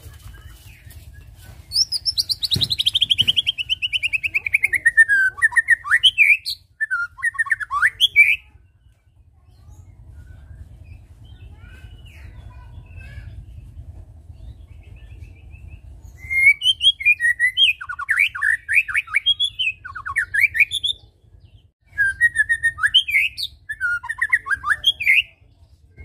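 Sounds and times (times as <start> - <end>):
bird singing whistles and trills: 0.2 - 26.0.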